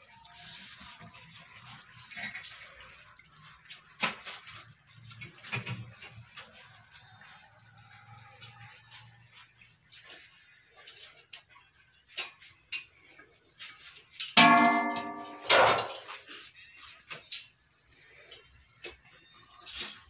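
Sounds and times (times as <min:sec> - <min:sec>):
thick food simmering and bubbling: 0:00.0 - 0:20.0.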